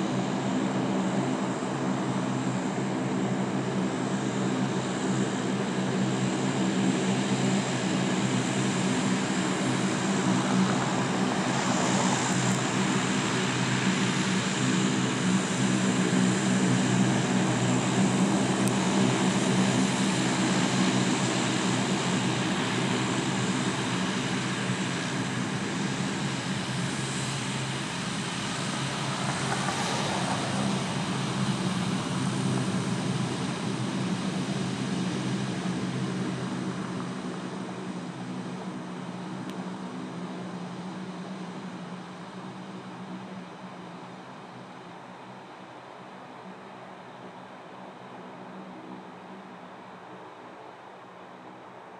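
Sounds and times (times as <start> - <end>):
high turbine whine: 0.0 - 51.9
loud propeller drone: 0.0 - 51.9.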